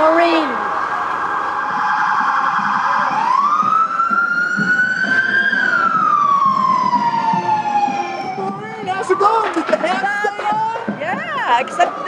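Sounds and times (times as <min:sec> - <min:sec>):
emergency vehicle siren: 0:00.0 - 0:12.0.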